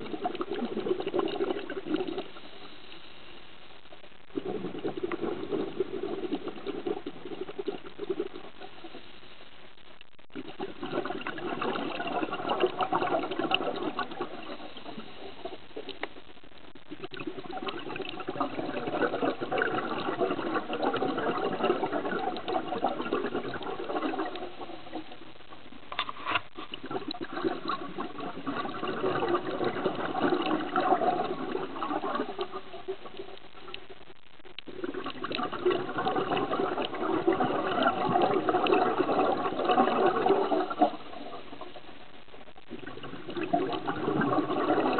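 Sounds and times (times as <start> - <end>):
underwater air bubbling: 0.0 - 9.4, 10.3 - 25.9, 26.5 - 44.9.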